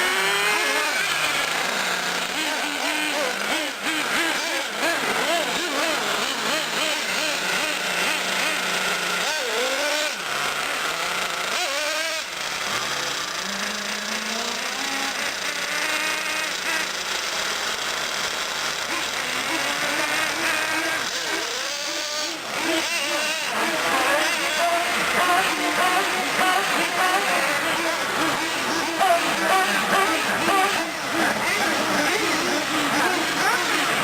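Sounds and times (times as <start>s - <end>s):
small engines revving: 0.0s - 34.0s.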